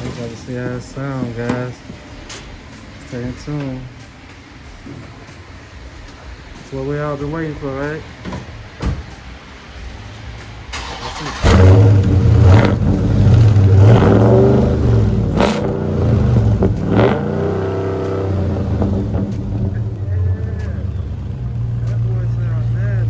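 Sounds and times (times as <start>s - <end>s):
car engine idling: 0.0s - 23.0s
car engine revving: 0.0s - 23.0s
car engine starting: 0.0s - 23.0s.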